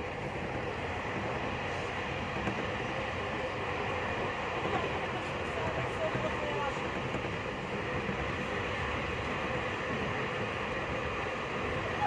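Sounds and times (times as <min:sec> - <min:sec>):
train running at speed: 0:00.0 - 0:12.0.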